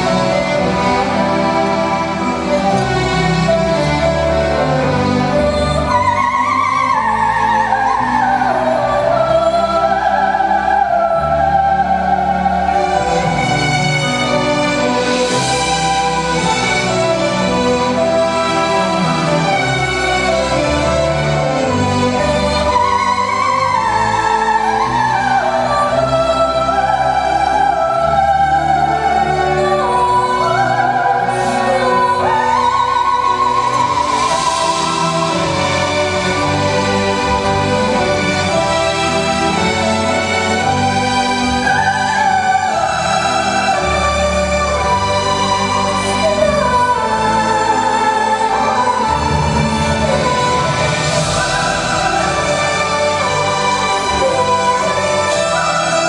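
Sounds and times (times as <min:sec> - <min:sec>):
orchestral accompaniment: 0:00.0 - 0:56.0.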